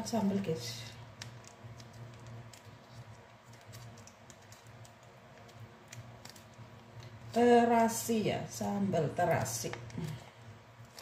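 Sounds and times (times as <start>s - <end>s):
plastic sachet crinkling: 0.0s - 8.0s, 9.2s - 11.0s
low steady hum: 0.0s - 11.0s.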